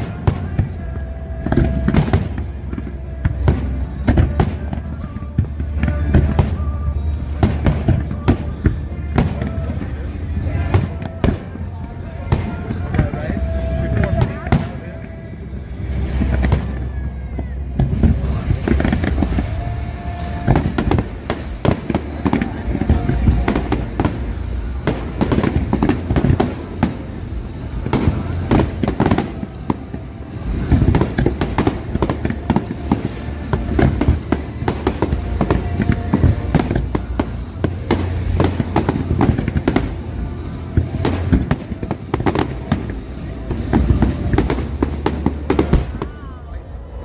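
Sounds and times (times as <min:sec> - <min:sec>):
deep booms of fireworks: 0:00.0 - 0:47.0
fireworks bursting and crackling: 0:00.0 - 0:47.0.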